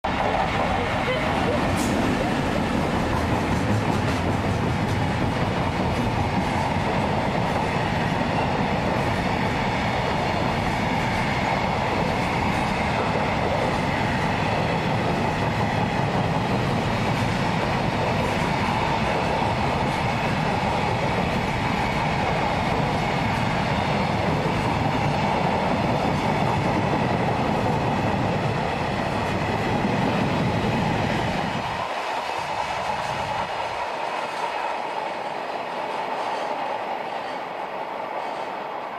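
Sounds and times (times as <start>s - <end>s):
electric locomotive passing: 0.0s - 38.9s
train wheels rumbling on rails: 0.0s - 38.9s.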